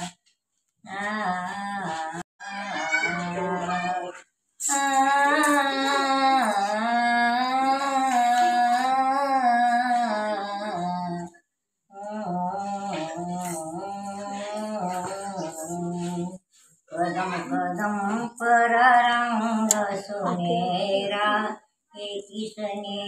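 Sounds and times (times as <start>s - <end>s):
elderly woman singing wordlessly: 0.8s - 23.0s.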